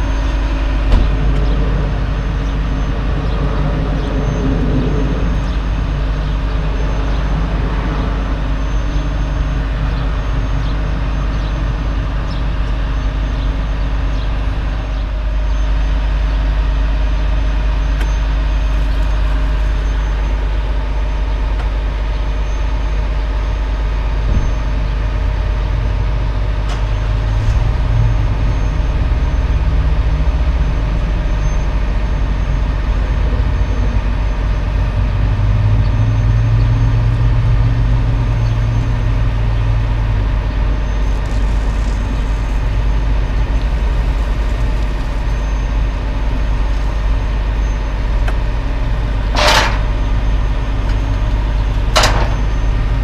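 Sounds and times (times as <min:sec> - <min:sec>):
diesel truck engine idling: 0:00.0 - 0:53.0
pickup trucks driving up: 0:00.0 - 0:53.0.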